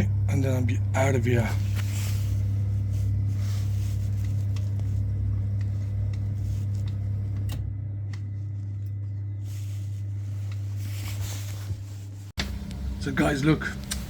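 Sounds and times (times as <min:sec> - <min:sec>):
gas boiler humming: 0:00.0 - 0:14.0.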